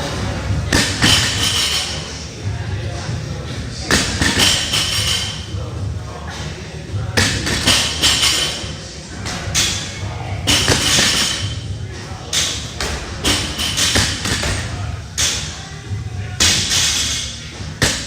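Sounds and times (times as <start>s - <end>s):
voices: 0.0s - 18.0s.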